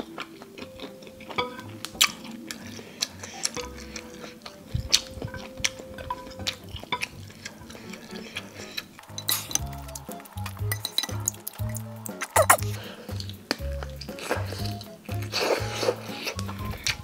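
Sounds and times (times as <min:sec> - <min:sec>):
chewing clicks and smacks: 0:00.0 - 0:17.0
soft background music: 0:00.0 - 0:17.0.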